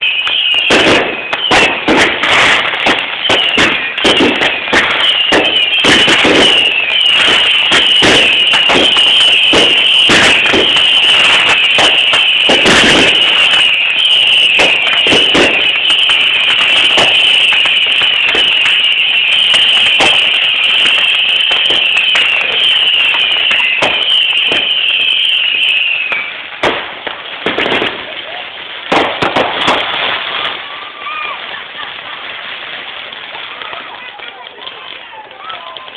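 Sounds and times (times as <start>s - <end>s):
shrill firework whistle: 0.0s - 31.6s
fireworks bangs and crackles: 0.0s - 35.9s.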